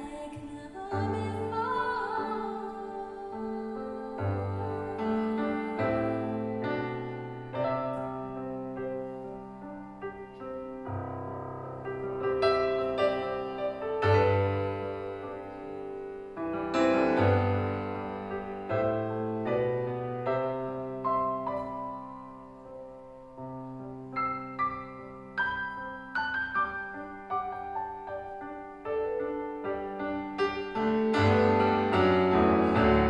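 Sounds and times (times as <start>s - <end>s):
slow gentle piano playing: 0.0s - 33.0s.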